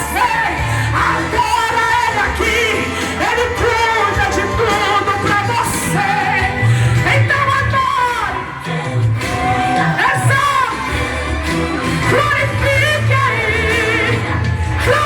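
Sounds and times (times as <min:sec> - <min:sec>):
live band accompaniment: 0:00.0 - 0:15.0
steady bass: 0:00.0 - 0:15.0
woman singing with vibrato: 0:00.0 - 0:15.0.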